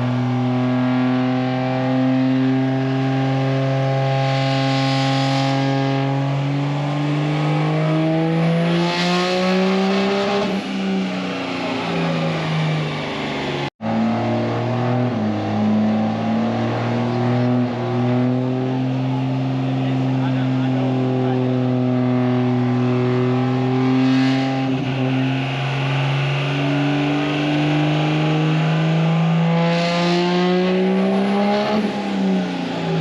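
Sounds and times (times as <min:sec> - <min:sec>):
vehicle engines revving: 0:00.0 - 0:33.0.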